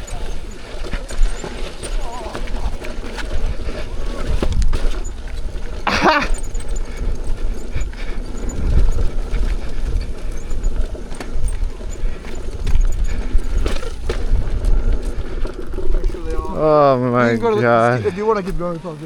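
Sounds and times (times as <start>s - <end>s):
wheel knocking and rattling: 0.0s - 19.0s
wind buffeting microphone: 0.0s - 19.0s.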